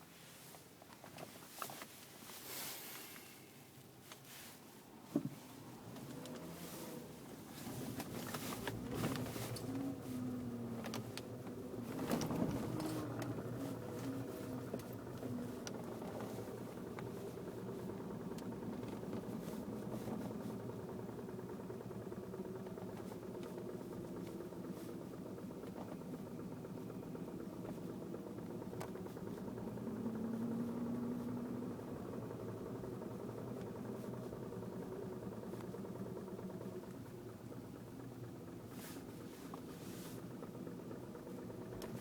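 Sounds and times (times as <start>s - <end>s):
car engine running: 5.1s - 42.0s.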